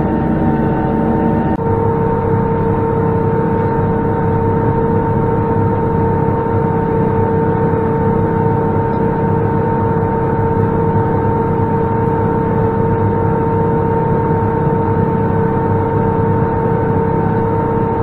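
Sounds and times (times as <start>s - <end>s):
tractor rumble: 0.0s - 18.0s.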